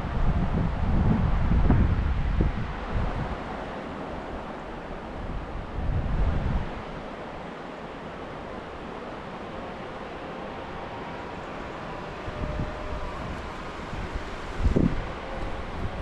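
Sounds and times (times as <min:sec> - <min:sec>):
wind buffeting microphone: 0:00.0 - 0:07.6, 0:09.5 - 0:16.0
river water rushing: 0:02.2 - 0:16.0.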